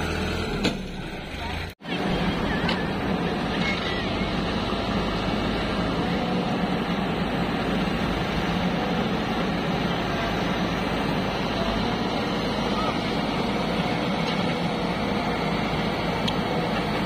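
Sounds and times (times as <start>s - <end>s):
vehicle running drone: 0.0s - 17.0s.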